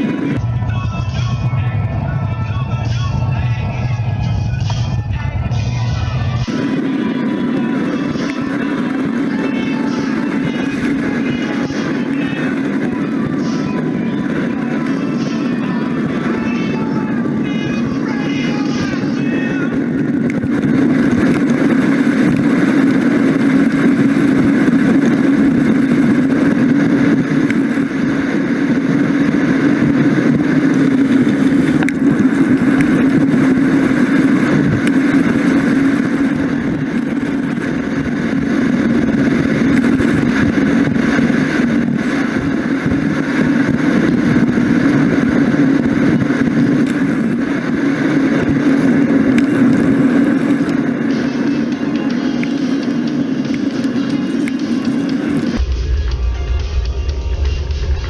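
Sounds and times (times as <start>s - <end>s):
bicycle road noise: 0.0s - 58.0s
wind over microphone: 0.0s - 58.0s.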